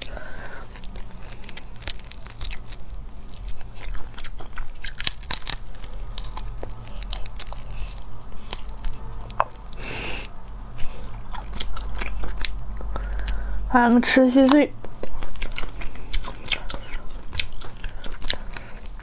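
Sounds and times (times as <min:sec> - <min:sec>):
wet chewing with lip smacks: 0:00.0 - 0:13.5, 0:14.4 - 0:19.0.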